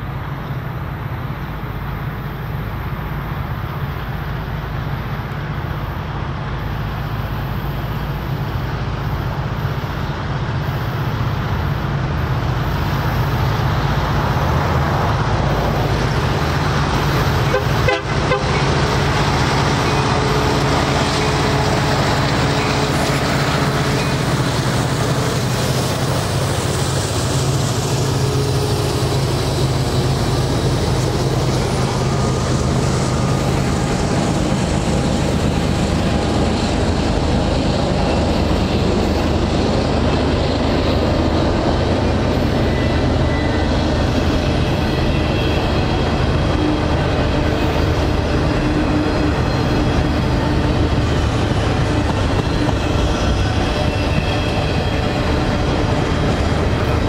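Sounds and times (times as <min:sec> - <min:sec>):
freight train wheels rolling on rails: 0:00.0 - 0:57.0.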